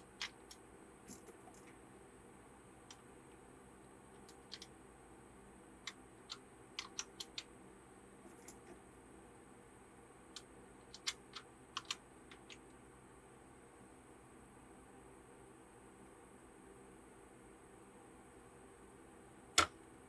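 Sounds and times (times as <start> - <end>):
low steady hiss: 0.0 - 20.0.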